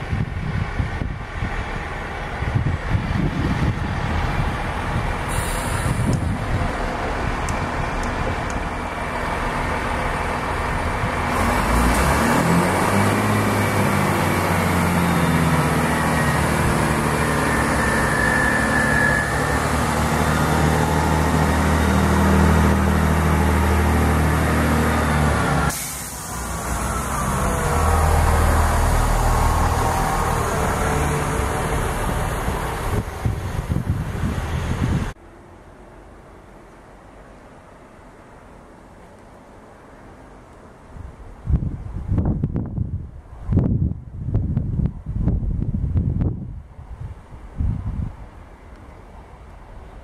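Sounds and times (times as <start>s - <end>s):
train diesel engine rumble: 0.0s - 50.0s.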